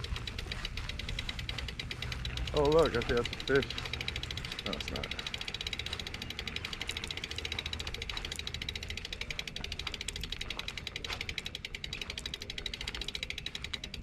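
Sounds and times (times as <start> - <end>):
bicycle freewheel ratchet clicking: 0.0 - 14.0.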